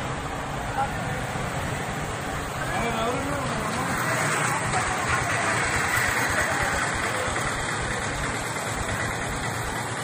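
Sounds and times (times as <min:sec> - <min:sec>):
car engine idling: 0:00.0 - 0:10.0
street noise hiss: 0:00.0 - 0:10.0.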